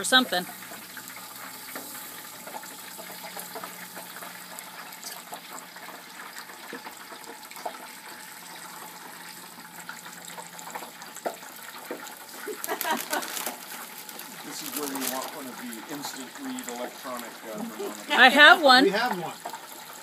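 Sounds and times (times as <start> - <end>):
frying oil sizzling and crackling: 0.0 - 20.0.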